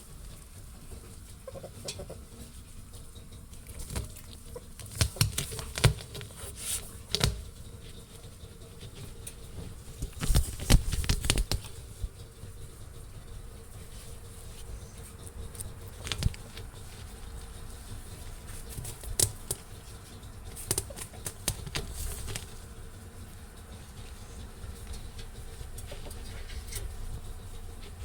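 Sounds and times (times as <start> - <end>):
ferret rustling in drum: 0.0 - 28.0.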